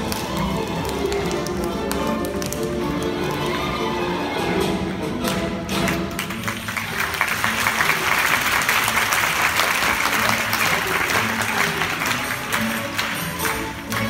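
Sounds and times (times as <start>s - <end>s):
audience applauding: 0.0s - 3.9s, 5.8s - 14.0s.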